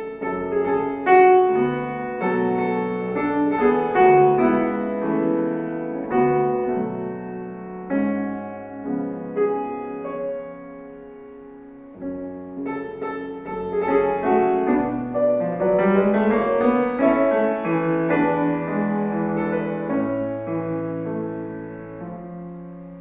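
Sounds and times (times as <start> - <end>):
solo piano playing: 0.0 - 23.0.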